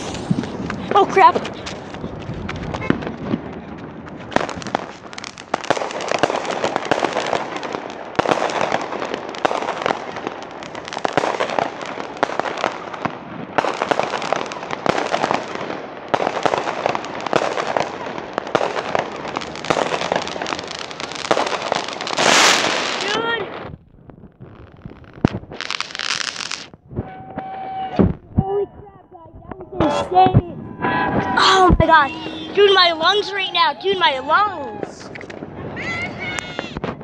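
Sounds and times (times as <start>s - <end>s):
fireworks bangs: 0.0s - 37.0s
fireworks crackling: 0.0s - 37.0s.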